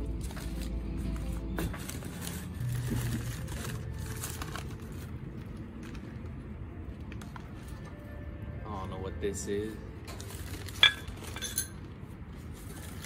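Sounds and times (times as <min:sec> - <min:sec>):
paper and plastic crinkling: 0:00.0 - 0:08.1, 0:10.1 - 0:13.0.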